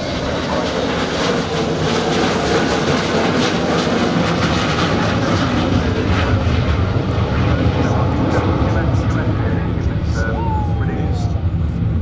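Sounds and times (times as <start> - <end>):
jet airliner flying past: 0.0 - 12.0.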